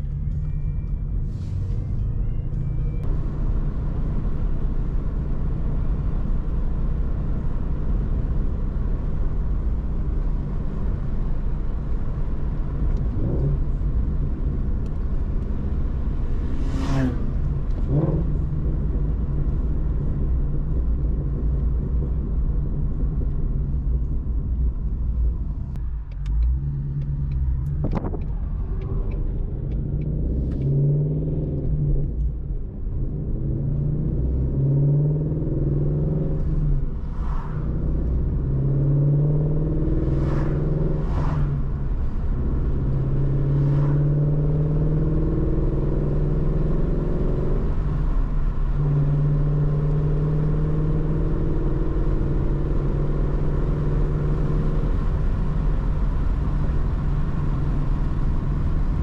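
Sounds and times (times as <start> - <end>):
car engine rumbling: 0.0 - 59.0
road noise: 0.0 - 59.0.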